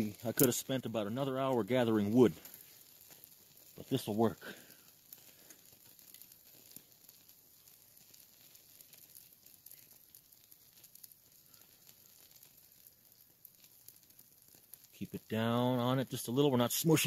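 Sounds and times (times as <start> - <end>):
small fire crackling: 0.0 - 17.0.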